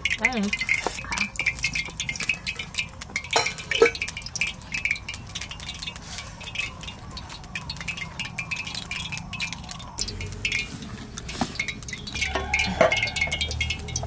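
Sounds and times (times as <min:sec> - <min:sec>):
fingers mixing food on metal plate: 0:00.0 - 0:14.0.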